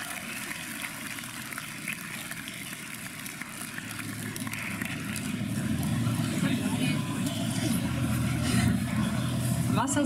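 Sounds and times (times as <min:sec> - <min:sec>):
crowd murmur in a large hall: 0:00.0 - 0:10.0.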